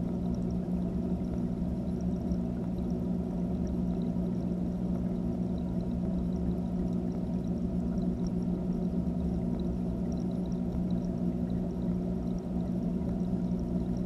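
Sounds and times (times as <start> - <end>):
aquarium filter hum: 0.0 - 14.0
faint ticks: 0.0 - 14.0
muffled underwater water rush: 0.0 - 14.0.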